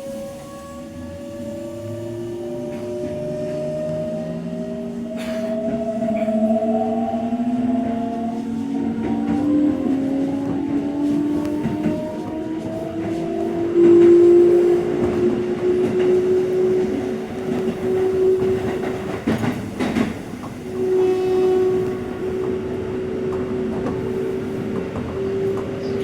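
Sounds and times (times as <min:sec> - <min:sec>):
wheel and rail rumble: 0:00.0 - 0:26.0.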